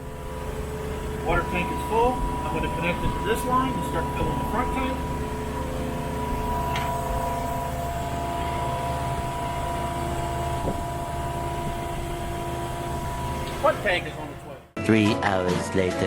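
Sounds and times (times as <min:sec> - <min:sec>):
boat engine droning: 0:00.0 - 0:14.8
high-pressure pump whining: 0:00.0 - 0:14.8.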